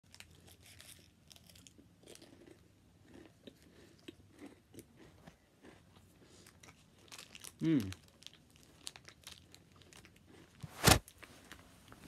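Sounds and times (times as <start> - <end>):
chewing crunchy wafer biscuit: 0.0 - 12.0.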